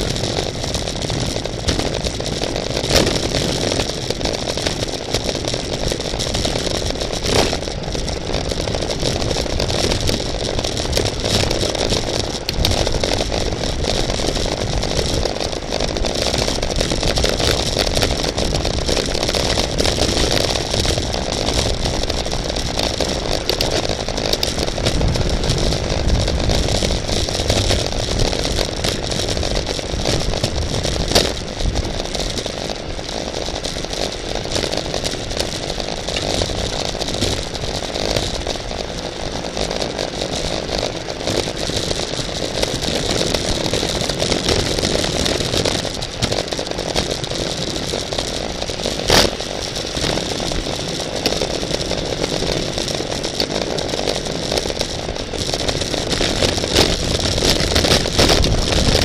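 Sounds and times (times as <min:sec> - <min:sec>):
bicycle rattling: 0:00.0 - 0:59.0
road noise: 0:00.0 - 0:59.0
wind rush: 0:00.0 - 0:59.0.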